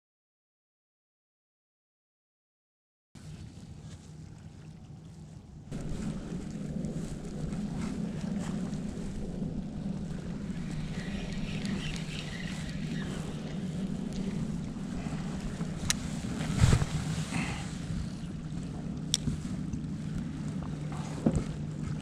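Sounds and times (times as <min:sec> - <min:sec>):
low hum: 0:03.2 - 0:22.0
water noise: 0:03.2 - 0:22.0.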